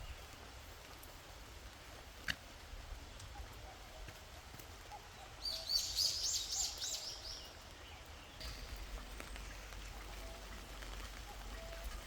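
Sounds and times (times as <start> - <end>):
faint rain patter: 0.0 - 12.0.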